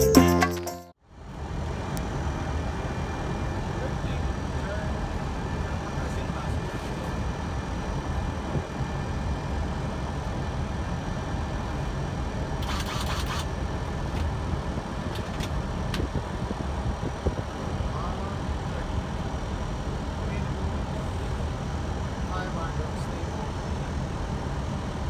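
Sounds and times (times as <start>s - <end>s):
rumble of airflow and engines: 1.0s - 25.0s.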